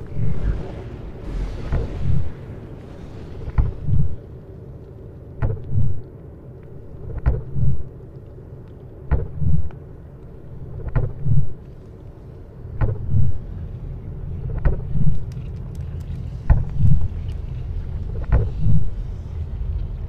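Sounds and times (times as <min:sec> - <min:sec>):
low drone: 0:00.0 - 0:20.0.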